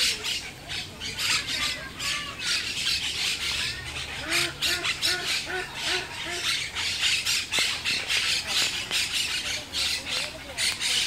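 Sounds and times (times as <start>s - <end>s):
parakeets squawking: 0.0s - 11.0s.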